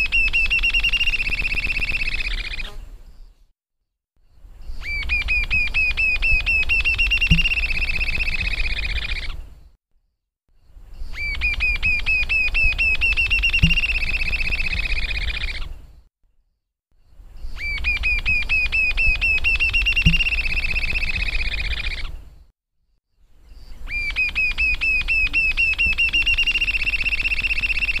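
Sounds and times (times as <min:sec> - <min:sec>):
bird song trilling: 0:00.0 - 0:03.4, 0:04.3 - 0:09.8, 0:10.6 - 0:16.0, 0:17.0 - 0:22.5, 0:23.4 - 0:28.0.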